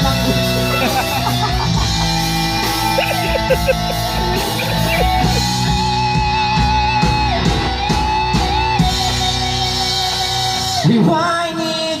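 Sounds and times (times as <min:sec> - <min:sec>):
electric guitar lead with bends: 0:00.0 - 0:10.9
live band playing: 0:00.0 - 0:12.0.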